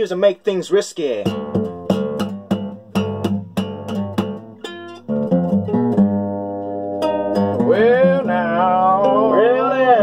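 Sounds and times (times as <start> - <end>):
guitar strumming chords: 1.2 - 10.0.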